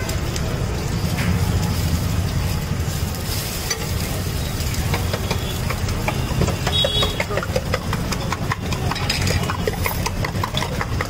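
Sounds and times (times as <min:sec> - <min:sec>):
omelette sizzling in oil: 0:00.0 - 0:10.2.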